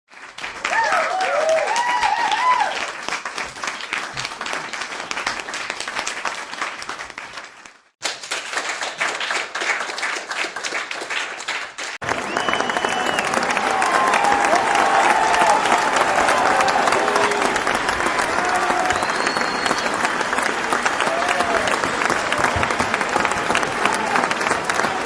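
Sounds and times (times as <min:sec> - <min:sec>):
crowd applauding: 0:00.1 - 0:25.0
crowd cheering: 0:00.2 - 0:06.3, 0:08.5 - 0:25.0.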